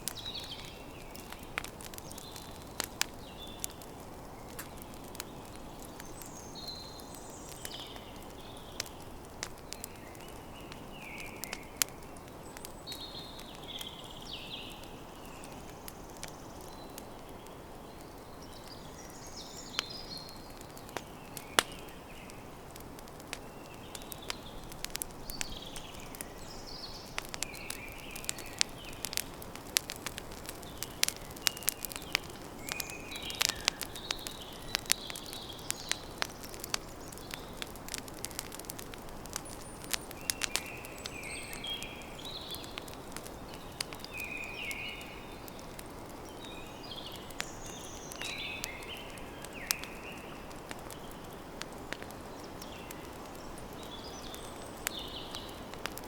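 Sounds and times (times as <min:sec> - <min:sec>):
birds chirping: 0:00.0 - 0:22.6, 0:23.3 - 0:55.7
campfire crackling and popping: 0:00.0 - 0:56.0.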